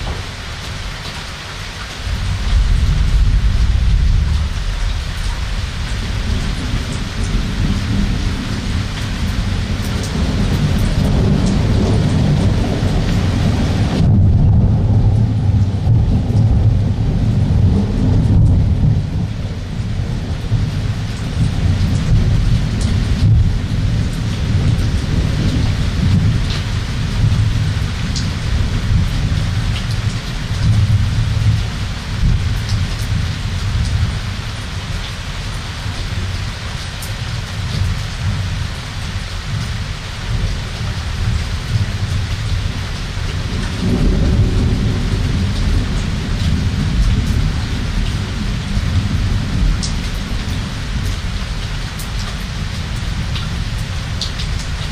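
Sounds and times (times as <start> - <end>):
heavy rain: 0.0 - 54.9
raindrops ticking close by: 0.0 - 54.9
thunder rumbling: 2.0 - 54.9.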